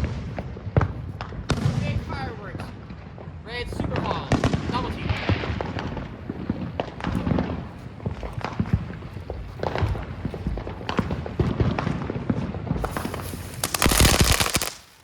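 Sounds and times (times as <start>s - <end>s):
firework pops and crackles: 0.0s - 15.0s.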